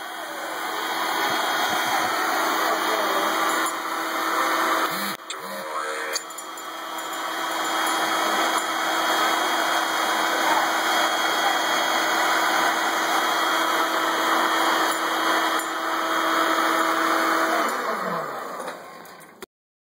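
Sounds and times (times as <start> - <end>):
vacuum cleaner running: 0.0 - 19.4
vacuum motor winding down: 0.0 - 19.4.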